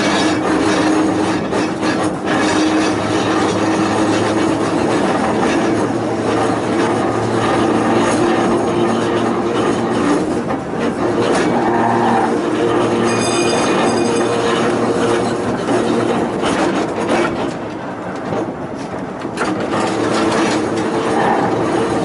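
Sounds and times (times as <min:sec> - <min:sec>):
wheel squeal: 0:00.0 - 0:17.6, 0:19.4 - 0:22.0
electric train hum: 0:00.0 - 0:22.0
rail click: 0:00.0 - 0:22.0.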